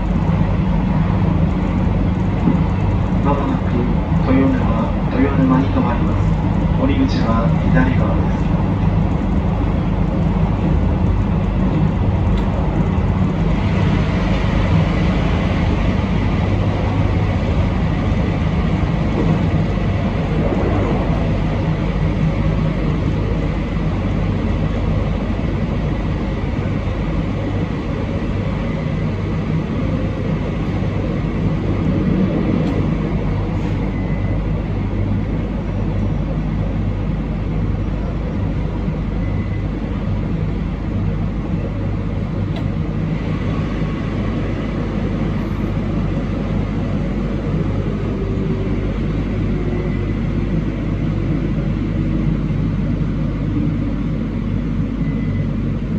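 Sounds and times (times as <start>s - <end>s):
low drive hum: 0.0s - 55.9s
train wheels rumbling on rail: 0.0s - 55.9s.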